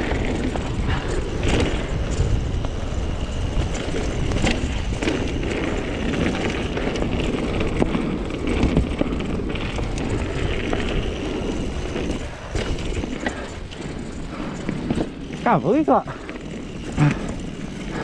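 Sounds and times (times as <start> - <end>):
wind on microphone: 0.0 - 15.2
bike knocks and rattles: 0.0 - 18.0
tyre noise: 0.0 - 18.0.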